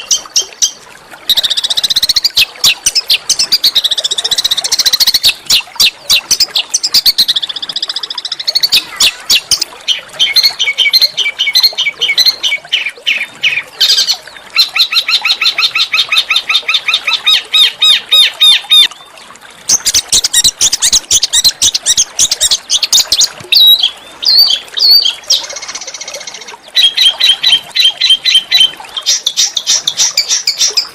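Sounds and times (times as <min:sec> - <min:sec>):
songbirds chattering song: 0:00.0 - 0:30.9.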